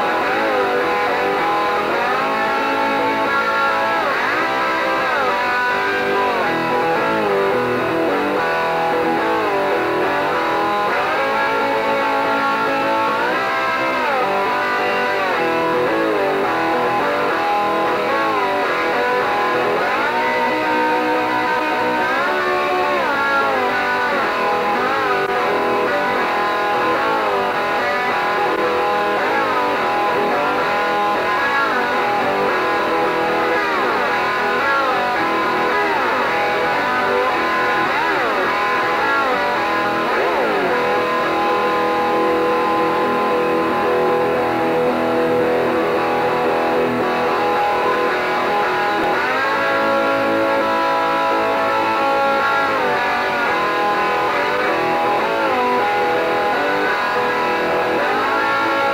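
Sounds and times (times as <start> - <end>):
electric guitar music: 0.0 - 58.9.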